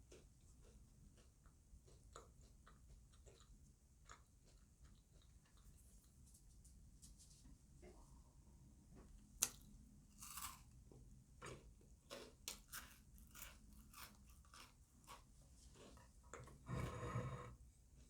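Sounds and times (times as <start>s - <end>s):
chewing crunchy wafer: 0.0s - 6.5s, 8.9s - 17.1s.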